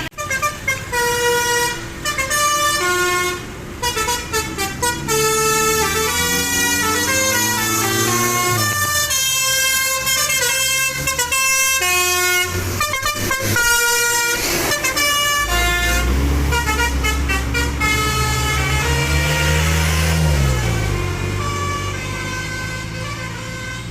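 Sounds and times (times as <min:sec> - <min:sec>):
musical air horn tune: 0:00.2 - 0:23.9.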